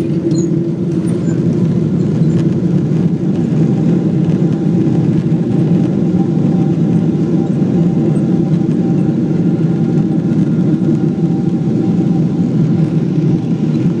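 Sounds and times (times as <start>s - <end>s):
jet engines rumbling in cabin: 0.0s - 14.0s.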